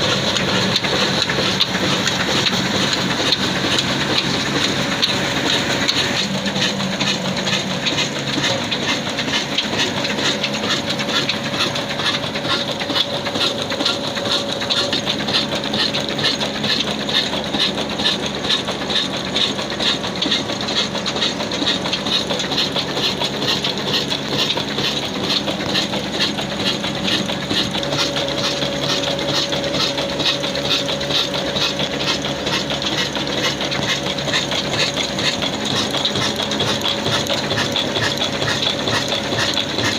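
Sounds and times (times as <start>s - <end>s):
diesel engine running: 0.0s - 39.9s
mill hissing and rattling: 0.0s - 39.9s.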